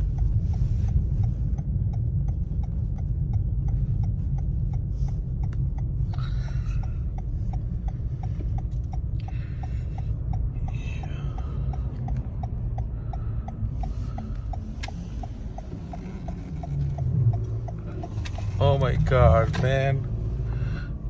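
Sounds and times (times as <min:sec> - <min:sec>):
car engine and road rumble: 0:00.0 - 0:21.0
turn signal ticking: 0:00.0 - 0:21.0.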